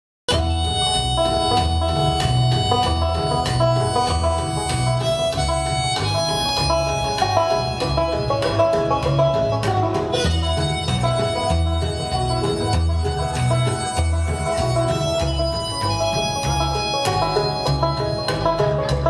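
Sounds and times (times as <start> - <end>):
banjo picking: 0.3 - 19.0
upright bass notes: 0.3 - 19.0.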